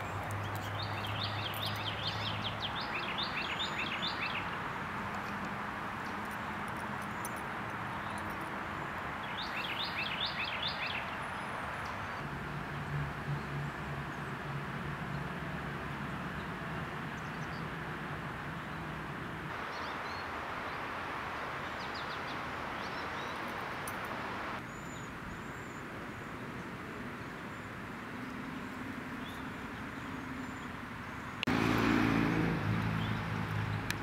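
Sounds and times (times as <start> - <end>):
birds chirping: 0.0 - 12.2, 12.9 - 31.8, 32.6 - 34.0
steady outdoor hiss: 0.0 - 34.0.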